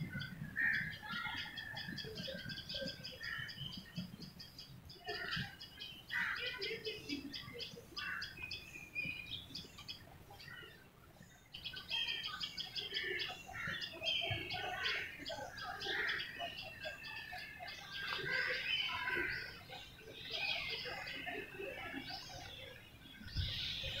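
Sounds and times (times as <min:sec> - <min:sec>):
birds chirping in chorus: 0:00.0 - 0:24.0.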